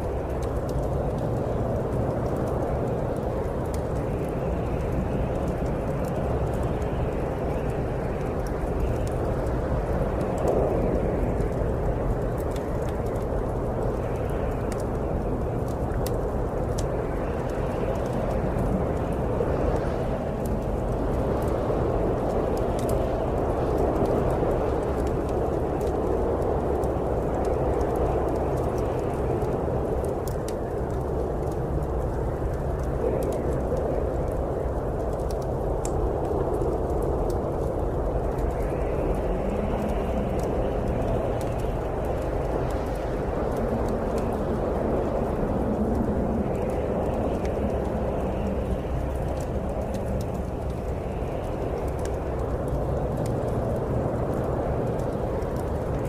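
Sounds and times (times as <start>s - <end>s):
snowstorm wind rushing: 0.0s - 56.0s
wood fire crackling: 0.0s - 56.0s.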